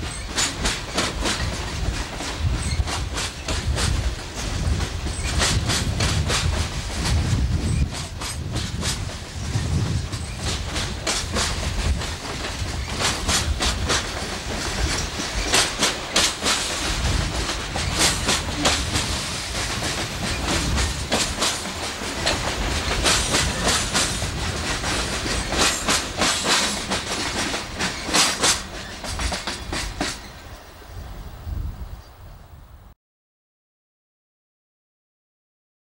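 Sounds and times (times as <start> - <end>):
train wheels clacking over rail joints: 0.0 - 30.7.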